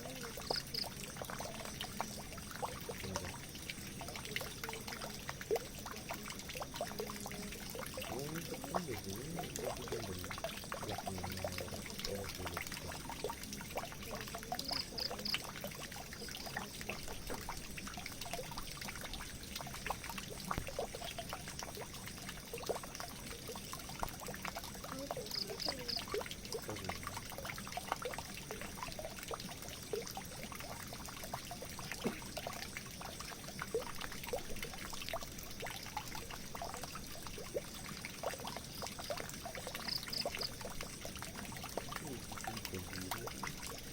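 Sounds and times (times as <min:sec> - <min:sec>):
water pouring into a drain: 0:00.0 - 0:43.9.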